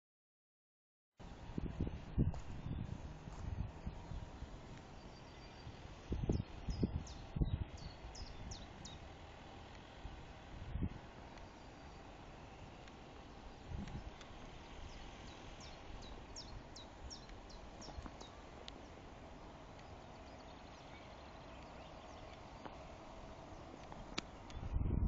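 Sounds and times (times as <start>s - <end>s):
faint outdoor hiss: 1.2s - 25.0s.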